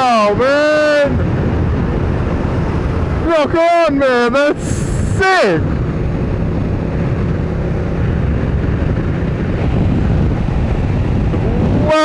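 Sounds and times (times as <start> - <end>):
engine and tyres rumbling: 0.0 - 12.0
wind rushing over microphone: 0.0 - 12.0.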